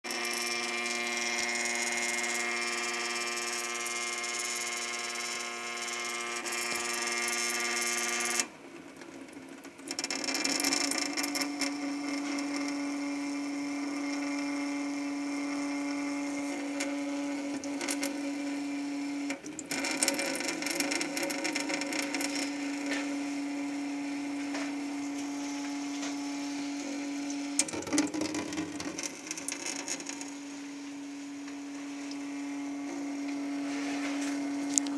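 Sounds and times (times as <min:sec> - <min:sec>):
buzzing hum: 0:00.1 - 0:08.4, 0:10.6 - 0:34.9
water running from tap: 0:00.1 - 0:34.9.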